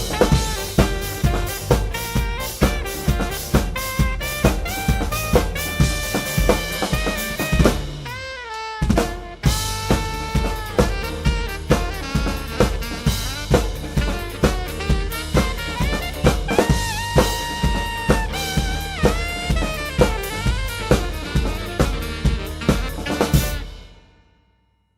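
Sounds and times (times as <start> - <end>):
synthesizer or guitar melody: 0.0 - 23.5
drum kit driving beat: 0.0 - 24.1.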